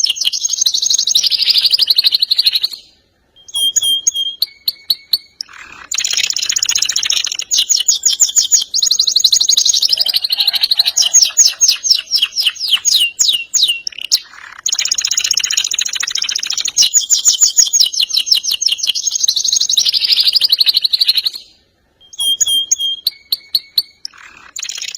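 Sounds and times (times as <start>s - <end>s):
canary short chirps: 0.0s - 24.9s
canary singing rolling trills: 0.0s - 24.9s.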